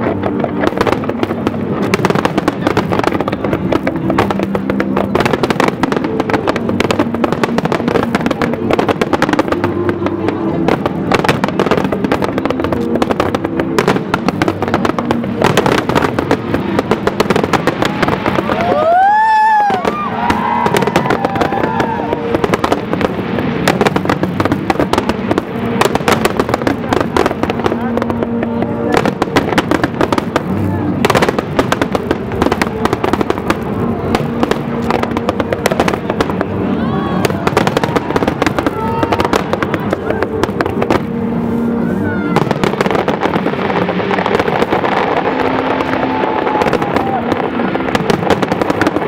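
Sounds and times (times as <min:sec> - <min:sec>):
fireworks crackling pops: 0:00.0 - 0:49.0
fireworks whistling: 0:00.0 - 0:49.0.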